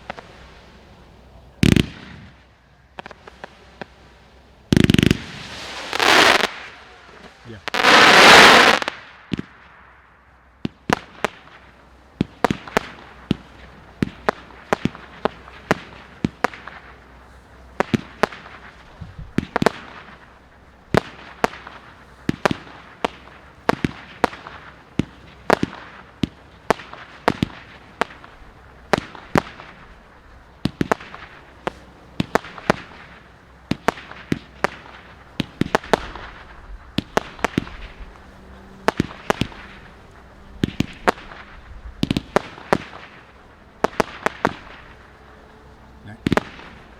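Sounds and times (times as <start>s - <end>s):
fireworks light pops: 0.0s - 9.8s, 10.6s - 46.9s
fireworks hissing: 0.0s - 46.9s.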